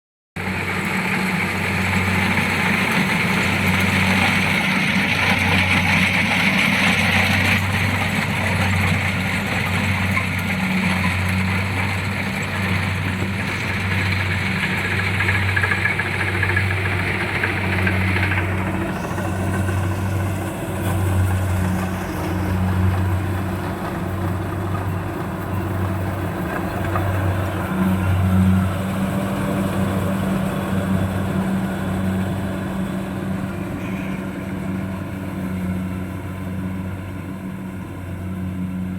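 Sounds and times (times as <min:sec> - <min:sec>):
diesel engine hum: 0:00.4 - 0:38.9.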